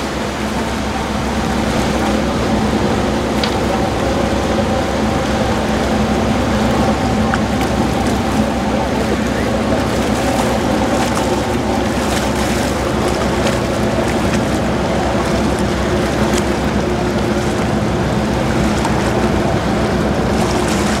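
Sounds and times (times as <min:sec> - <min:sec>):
boat engines droning: 0:00.0 - 0:21.0
water hissing along hull: 0:00.0 - 0:21.0.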